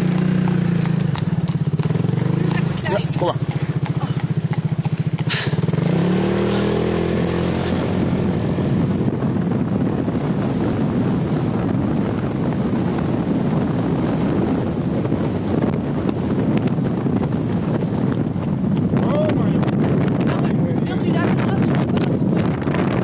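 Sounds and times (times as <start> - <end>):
motorcycle engine pulling away: 0.0 - 19.2
wind rush on microphone: 0.0 - 23.0.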